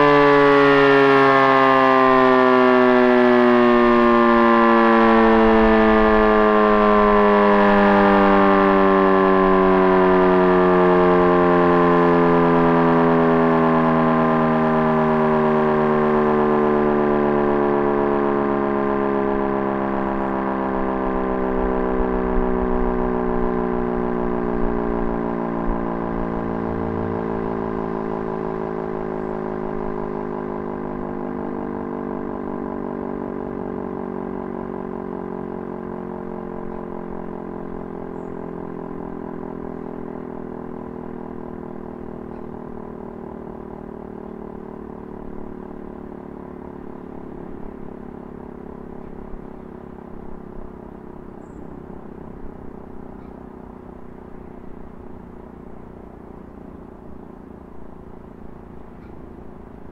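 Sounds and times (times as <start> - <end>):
siren winding down: 0.0 - 59.9.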